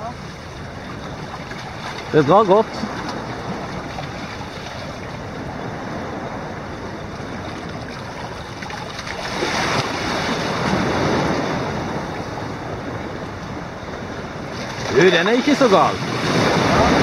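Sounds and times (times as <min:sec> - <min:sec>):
sea noise: 0:00.0 - 0:17.0
wind: 0:00.0 - 0:17.0.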